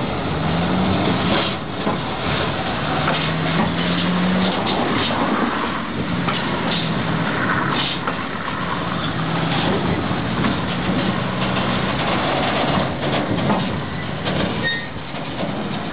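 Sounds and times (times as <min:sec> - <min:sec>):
diesel locomotive engine hum: 0:00.0 - 0:15.9
steady mechanical noise: 0:00.0 - 0:15.9.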